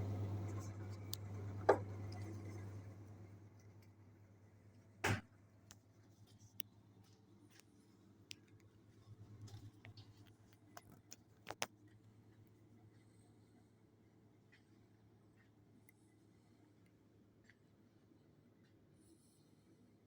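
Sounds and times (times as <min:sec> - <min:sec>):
refrigerated display case humming: 0:00.0 - 0:17.5.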